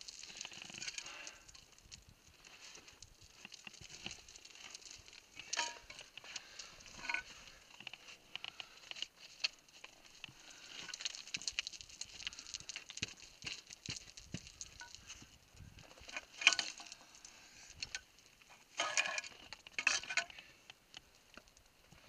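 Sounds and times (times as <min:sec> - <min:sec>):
scrabbling over loose rock: 0:00.0 - 0:20.4.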